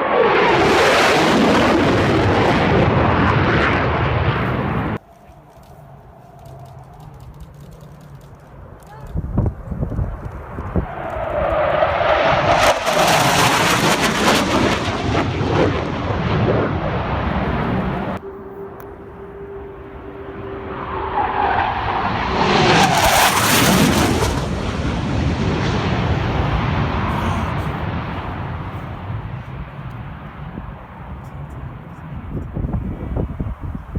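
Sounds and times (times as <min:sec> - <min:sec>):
military jet roaring past: 0:00.0 - 0:05.0, 0:10.0 - 0:33.9.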